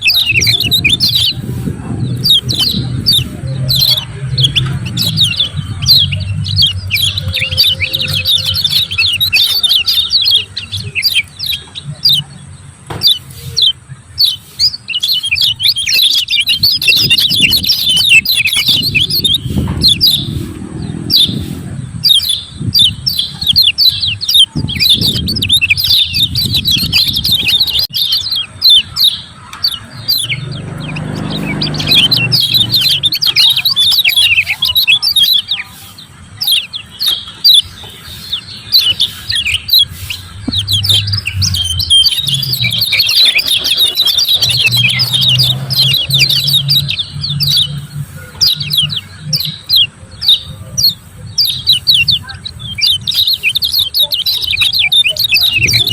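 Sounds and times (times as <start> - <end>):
bird high down-sweeping chirps: 0.0 - 55.9.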